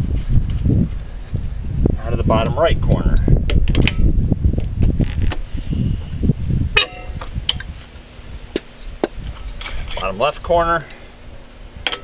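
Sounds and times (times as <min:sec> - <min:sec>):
low rumble: 0:00.0 - 0:10.5.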